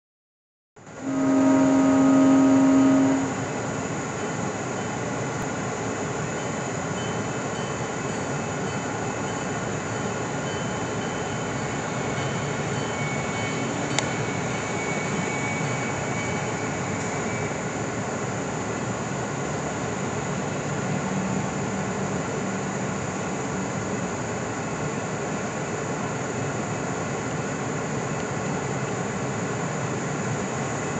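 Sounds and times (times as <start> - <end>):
diesel locomotive engine drone: 0.8 - 30.9.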